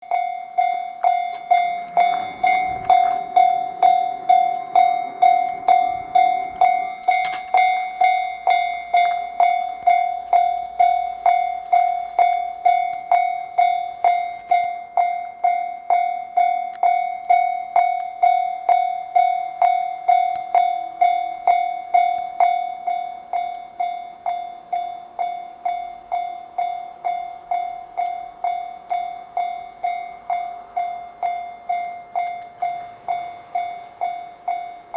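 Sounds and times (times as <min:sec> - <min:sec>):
level crossing bell clanging: 0:00.0 - 0:34.9
passing train rumble: 0:00.0 - 0:34.9.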